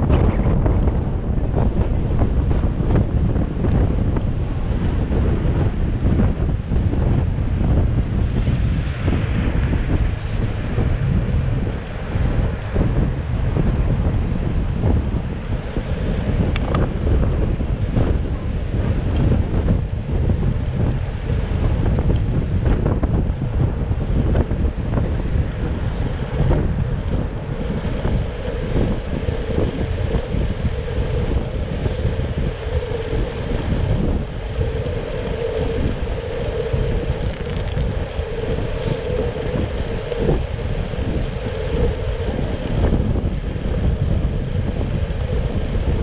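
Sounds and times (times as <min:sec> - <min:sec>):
passing vehicles rumbling: 0:00.0 - 0:46.0
steady hum: 0:00.0 - 0:46.0
wind buffeting microphone: 0:00.0 - 0:46.0.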